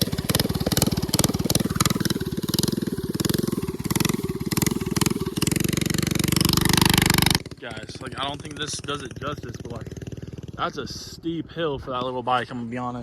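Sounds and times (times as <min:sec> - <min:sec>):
small engine running under throttle: 0:00.0 - 0:12.5.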